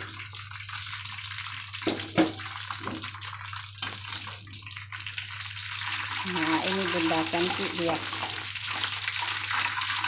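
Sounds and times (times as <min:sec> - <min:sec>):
tofu sizzling in hot oil: 0:00.0 - 0:10.0.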